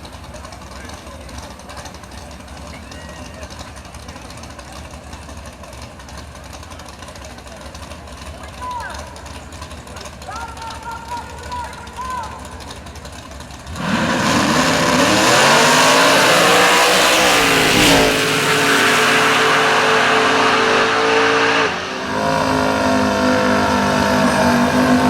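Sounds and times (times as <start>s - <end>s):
race car engine at full throttle: 0.0s - 25.0s.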